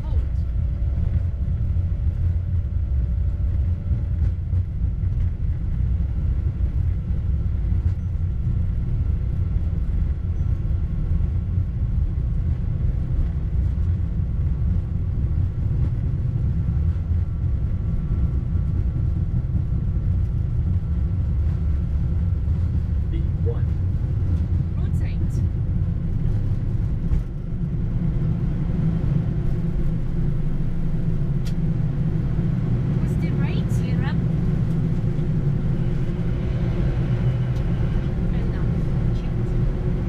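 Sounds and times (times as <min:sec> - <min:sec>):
airliner engine rumble: 0:00.0 - 0:40.0
faint steady whine: 0:00.0 - 0:40.0.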